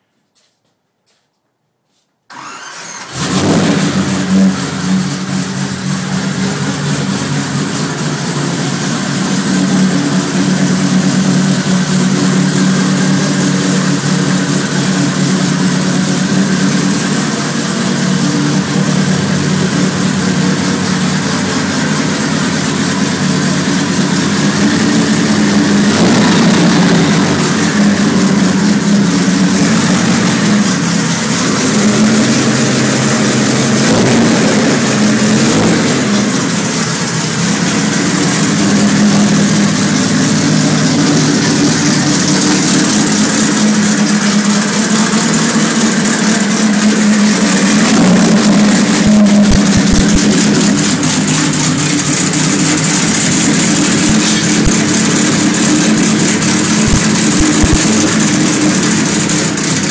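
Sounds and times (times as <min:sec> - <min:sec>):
racing engine starting and running: 0:02.3 - 0:59.9.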